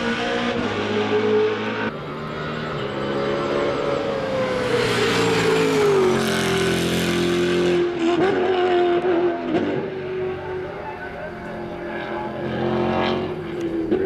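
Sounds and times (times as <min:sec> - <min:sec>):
racing car engine running hard: 0:00.0 - 0:14.0.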